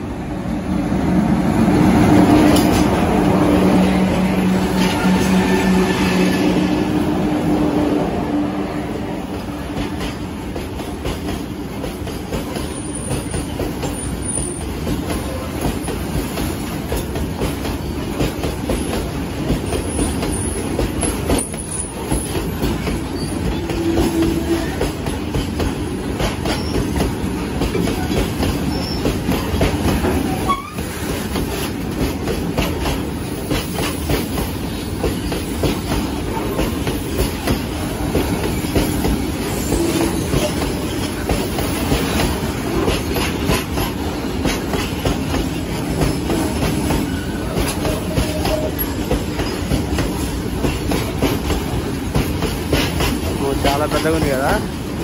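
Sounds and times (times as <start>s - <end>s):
train wheels rumbling on rails: 0.0s - 55.0s
wheels clacking over rail joints: 9.3s - 54.8s.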